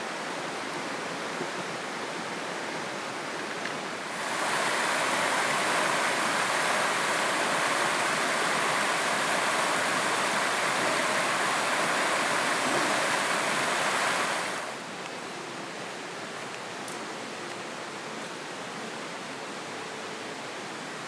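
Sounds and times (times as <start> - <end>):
flowing river water: 0.0 - 21.0.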